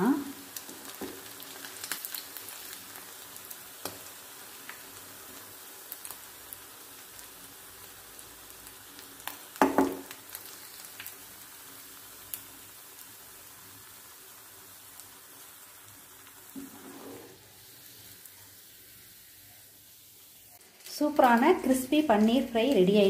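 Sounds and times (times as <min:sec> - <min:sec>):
food sizzling in frying pan oil: 0:00.0 - 0:23.0.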